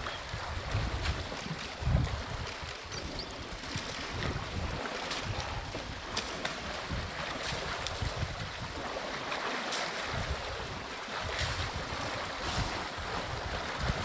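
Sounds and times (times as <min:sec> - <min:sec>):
wind buffeting microphone: 0:00.0 - 0:09.0, 0:10.0 - 0:14.0
water sloshing and splashing: 0:00.0 - 0:14.0.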